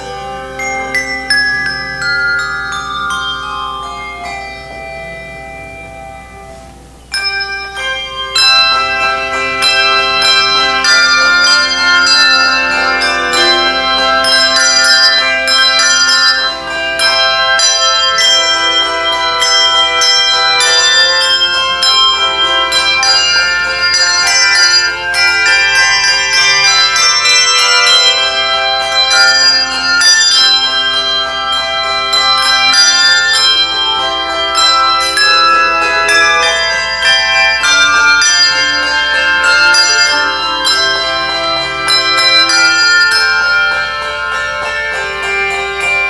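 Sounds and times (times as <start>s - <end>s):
handbell choir ringing: 0.0s - 46.0s.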